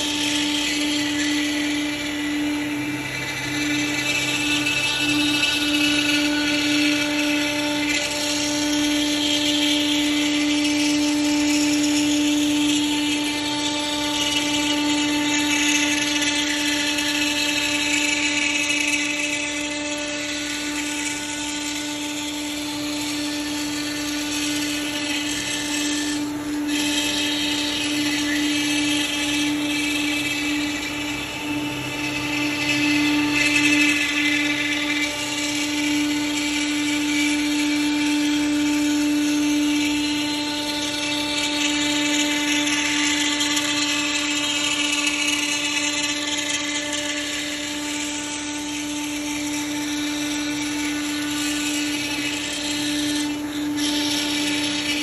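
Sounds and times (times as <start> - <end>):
router bit cutting wood: 0.0 - 55.0
router spindle high-pitched whine: 0.0 - 55.0.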